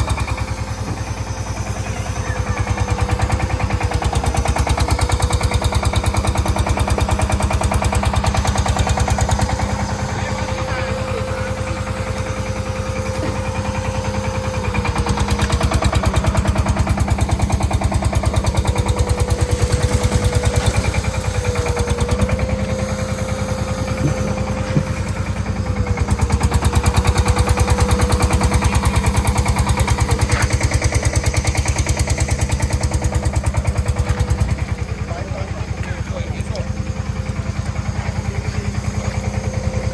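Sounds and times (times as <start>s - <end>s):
engine running with pulsing hum: 0.0s - 39.9s.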